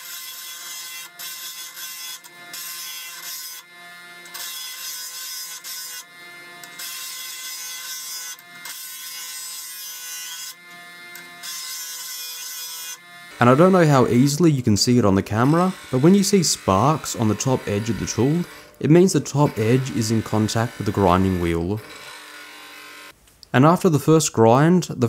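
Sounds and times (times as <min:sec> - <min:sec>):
bench grinder whine: 0:00.0 - 0:23.2.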